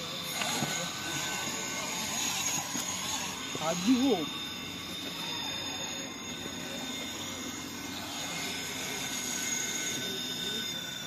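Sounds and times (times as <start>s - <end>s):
toy car motor and gears whining: 0.0s - 11.0s.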